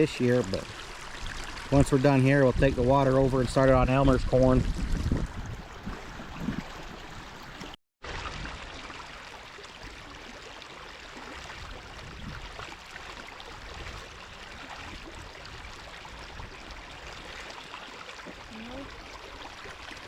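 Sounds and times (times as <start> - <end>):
water flowing through a ditch: 0.0 - 20.0.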